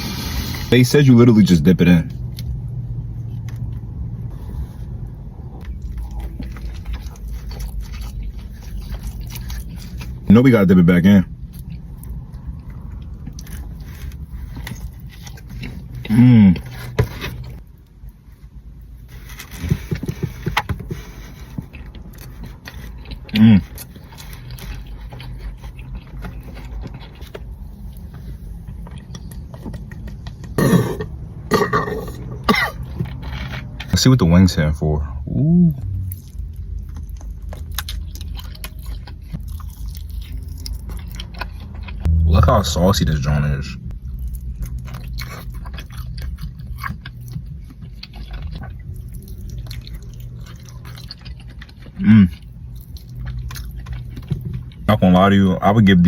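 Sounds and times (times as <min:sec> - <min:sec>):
low steady hum: 0:00.0 - 0:56.0
person chewing food: 0:02.2 - 0:10.3, 0:11.3 - 0:34.0, 0:35.8 - 0:54.9.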